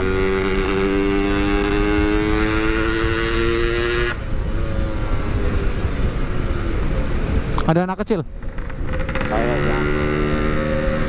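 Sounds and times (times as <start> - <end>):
motorcycle engine revving: 0.0 - 7.2, 8.3 - 11.0.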